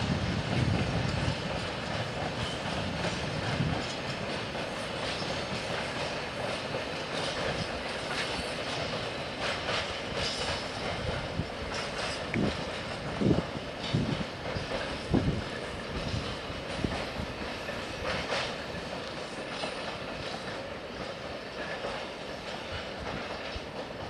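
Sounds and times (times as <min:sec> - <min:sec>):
train rumble: 0:00.0 - 0:24.0
train wheels clattering over rail joints: 0:00.0 - 0:24.0.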